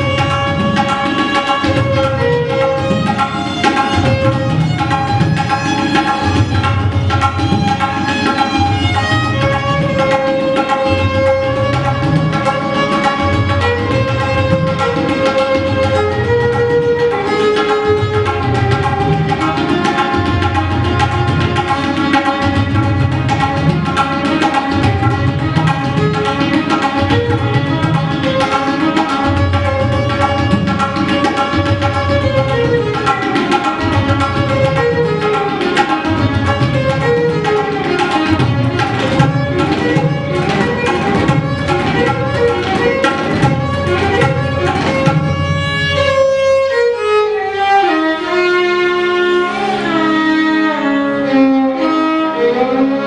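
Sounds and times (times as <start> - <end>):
tabla strokes: 0.0 - 53.0
violin playing melody with slides: 0.0 - 53.0.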